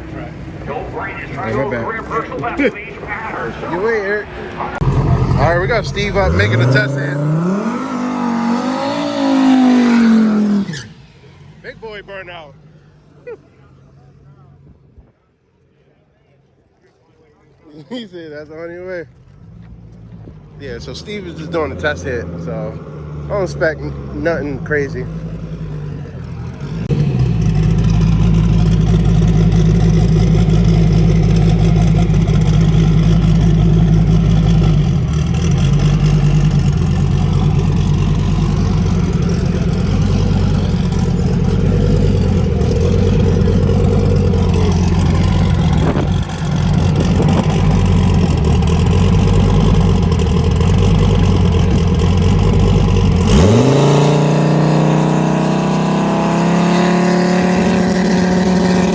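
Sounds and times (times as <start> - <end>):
loud engine running: 0.0 - 13.2, 19.2 - 58.9.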